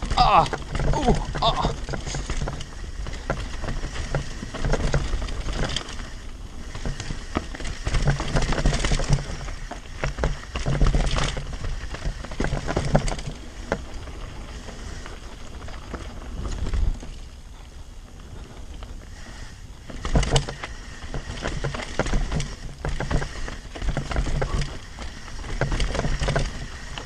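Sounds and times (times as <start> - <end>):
bike knocking and rattling: 0.0 - 27.0
bike tyres rolling over dirt and stones: 0.0 - 27.0.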